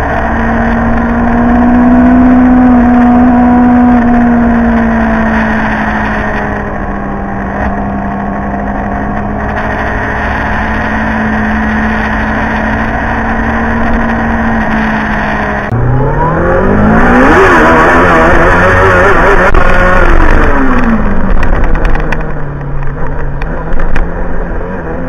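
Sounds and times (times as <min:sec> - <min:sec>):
motorcycle engine at steady revs: 0:00.0 - 0:15.8, 0:16.4 - 0:25.0
motorcycle engine revving up: 0:00.0 - 0:25.0.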